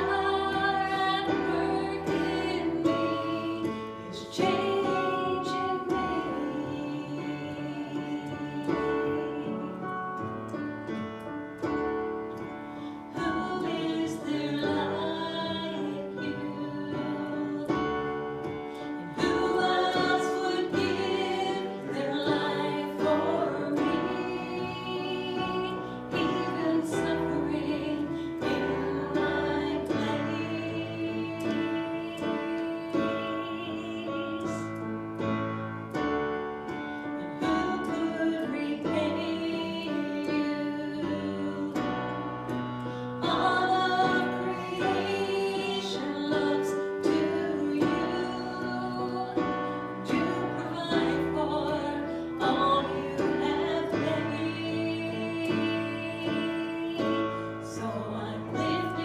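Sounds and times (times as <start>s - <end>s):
instrumental accompaniment: 0.0s - 59.0s
voices singing a worship song: 0.0s - 59.0s.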